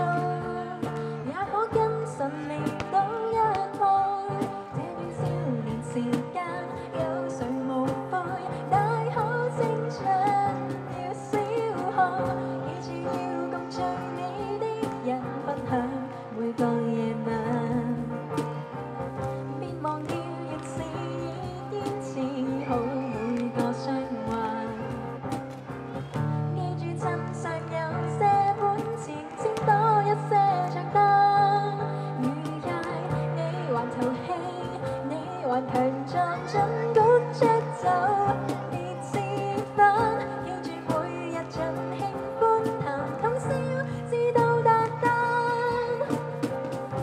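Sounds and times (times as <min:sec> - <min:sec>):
woman singing pop ballad: 0:00.0 - 0:25.4, 0:26.1 - 0:47.0.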